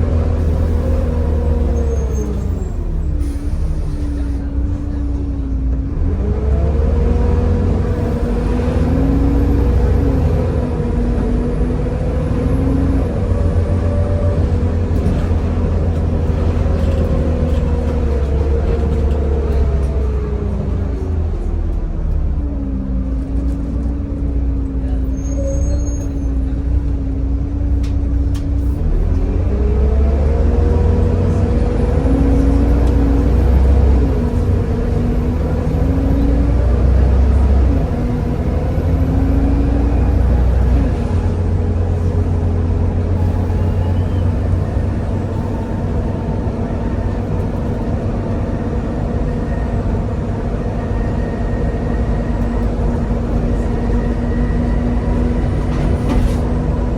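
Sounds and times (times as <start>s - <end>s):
bus engine drone: 0.0s - 56.9s
high whine of bus drivetrain: 0.0s - 56.9s.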